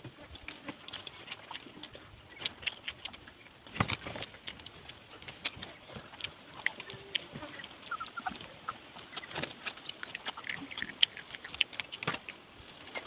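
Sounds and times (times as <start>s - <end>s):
people chewing with lip smacks: 0.0s - 13.0s.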